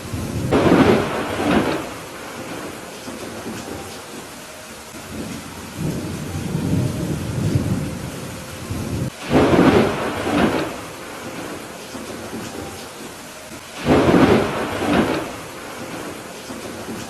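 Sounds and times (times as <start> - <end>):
loud thunder clap: 0.0 - 3.8, 5.1 - 12.6, 13.8 - 17.0
steady rain: 0.0 - 17.0
thunder rumbling: 0.0 - 17.0.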